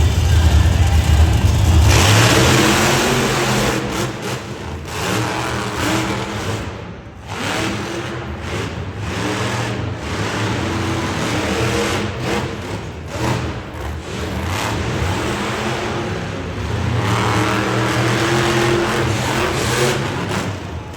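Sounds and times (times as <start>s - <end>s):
truck engines revving hard: 0.0s - 20.9s.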